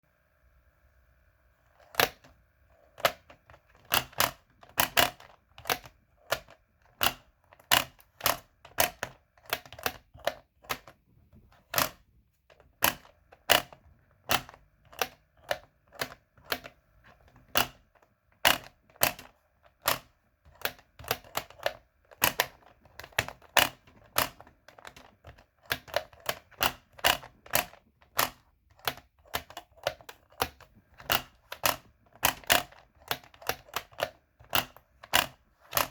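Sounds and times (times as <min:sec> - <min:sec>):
plastic toy clicks: 0:01.8 - 0:11.0, 0:11.6 - 0:35.9.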